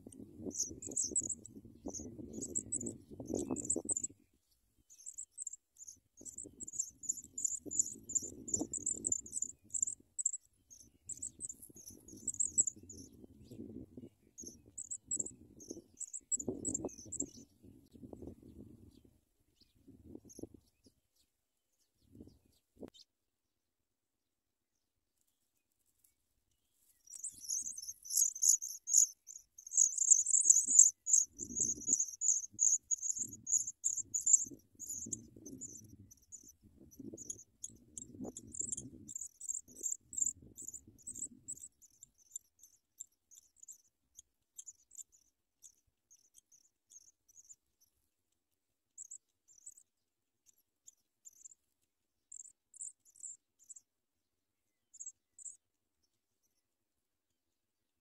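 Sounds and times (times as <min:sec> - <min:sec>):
nestlings high begging peeps: 0:00.0 - 0:04.2, 0:04.9 - 0:20.9, 0:26.8 - 0:48.0, 0:49.0 - 0:51.6, 0:52.3 - 0:53.8, 0:54.9 - 0:56.1.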